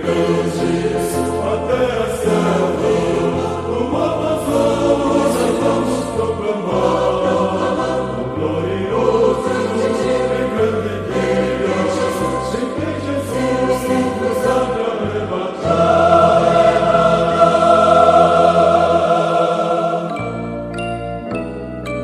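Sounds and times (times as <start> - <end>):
choir singing a hymn: 0.0 - 20.6.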